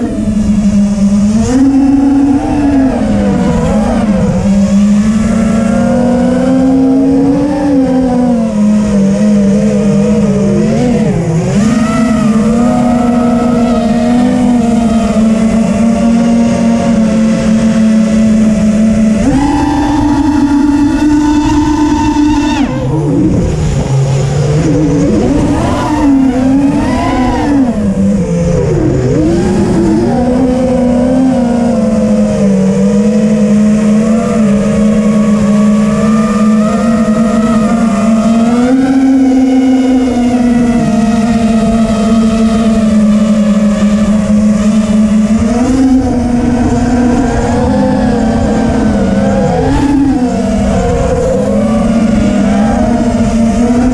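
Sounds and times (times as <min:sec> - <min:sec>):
quadcopter motors whining: 0:00.0 - 0:53.9.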